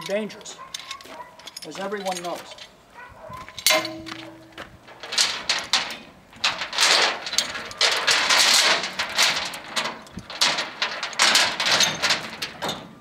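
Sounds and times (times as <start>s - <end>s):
steel chain rattling and clanking: 0.0s - 2.8s, 3.4s - 13.0s.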